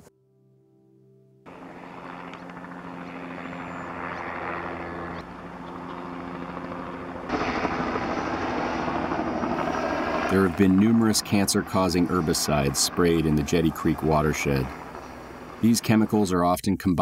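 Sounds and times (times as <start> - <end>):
helicopter flying low: 1.5 - 16.4.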